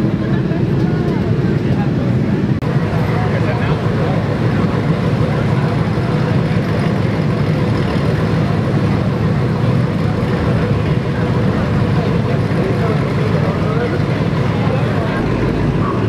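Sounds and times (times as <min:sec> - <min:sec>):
car engine rumbling: 0:00.0 - 0:16.0
crowd chatter: 0:00.0 - 0:16.0.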